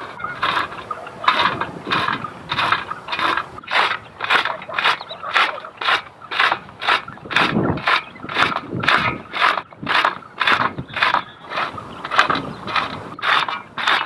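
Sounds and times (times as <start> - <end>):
rhythmic scraping strokes: 0.0 - 14.0.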